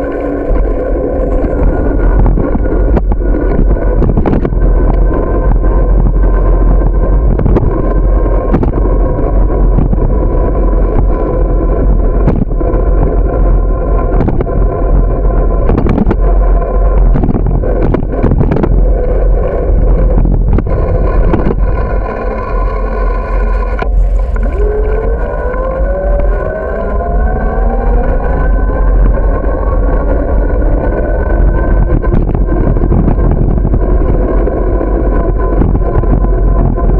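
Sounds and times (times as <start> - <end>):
road rumble: 0.0 - 36.9
steady humming tone: 0.0 - 36.9
wind buffeting: 0.0 - 36.9.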